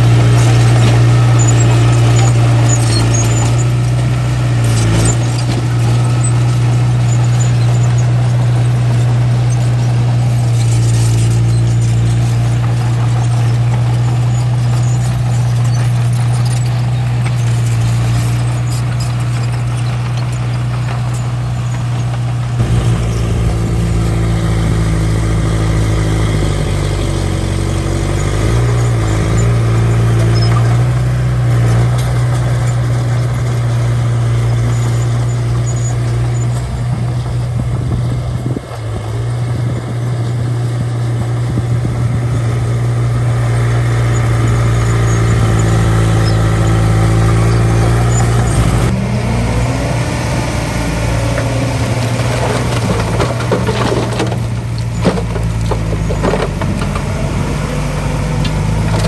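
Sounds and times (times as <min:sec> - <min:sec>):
clatter: 0:00.0 - 0:49.0, 0:51.0 - 0:59.0
bulldozer diesel engine running: 0:00.0 - 0:59.0.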